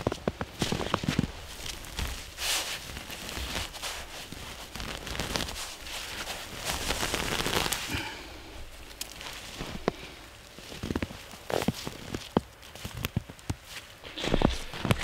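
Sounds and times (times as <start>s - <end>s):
hands digging in snow: 0.0s - 15.0s.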